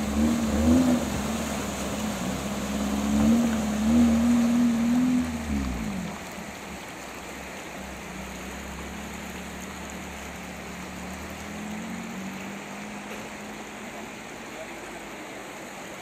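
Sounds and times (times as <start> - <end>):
stream running over stones: 0.0 - 16.0
vehicle engine rumble on gravel: 0.0 - 16.0.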